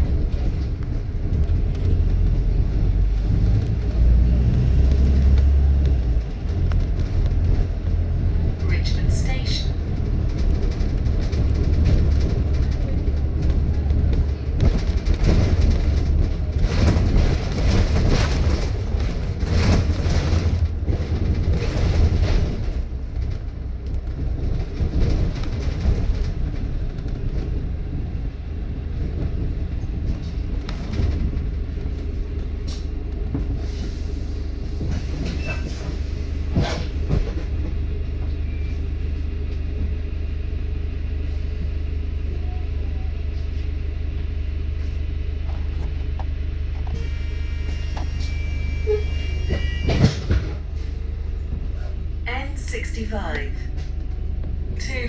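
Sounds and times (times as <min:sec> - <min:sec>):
bus body rattling: 0:00.0 - 0:40.0, 0:48.0 - 0:52.4
bus drivetrain hum: 0:00.0 - 0:55.0
road rumble: 0:00.0 - 0:55.0.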